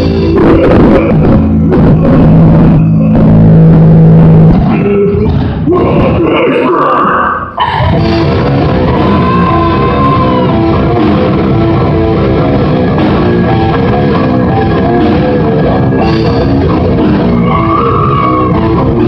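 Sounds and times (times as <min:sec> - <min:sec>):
drum kit: 0:00.0 - 0:06.2, 0:07.8 - 0:19.0
distorted electric guitars: 0:00.0 - 0:19.0.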